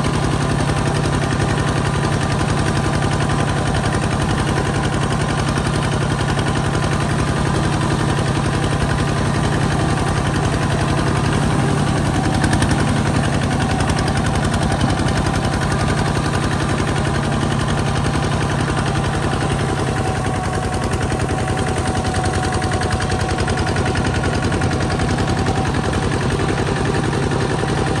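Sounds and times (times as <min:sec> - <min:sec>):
diesel tractor engine chugging: 0:00.0 - 0:28.0.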